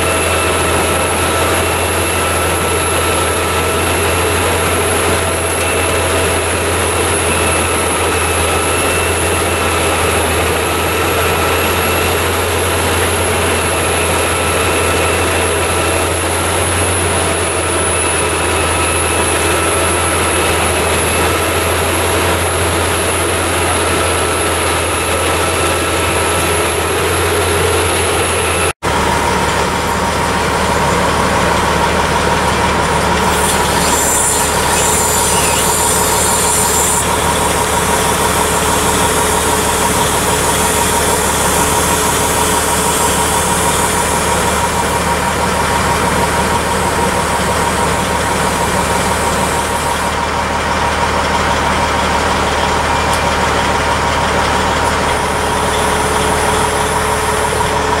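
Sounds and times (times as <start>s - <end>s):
constant whine: 0.0s - 58.0s
wood chipper engine running: 0.0s - 58.0s.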